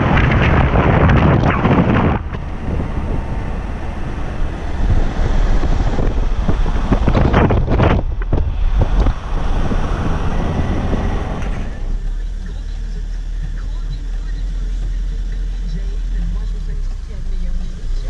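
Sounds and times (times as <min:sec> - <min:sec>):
car road and engine rumble: 0:00.0 - 0:18.0
wind rushing over microphone: 0:00.0 - 0:18.0.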